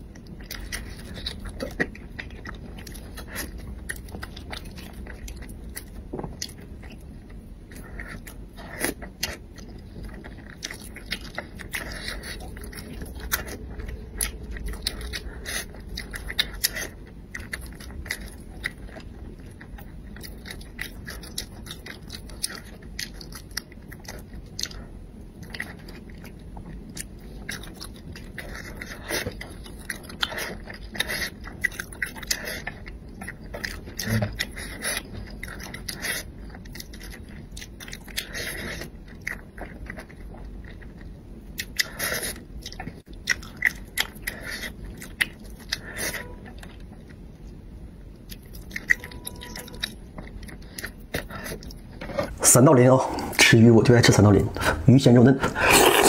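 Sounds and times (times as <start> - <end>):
chewing and lip-smacking: 0.0 - 52.4.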